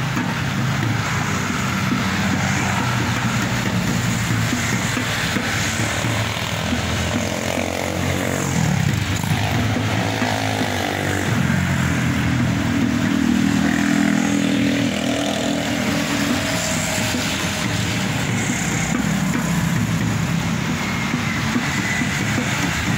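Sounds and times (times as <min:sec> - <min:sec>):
steady traffic hum: 0:00.0 - 0:22.9
motorcycle engine passing: 0:01.5 - 0:22.2.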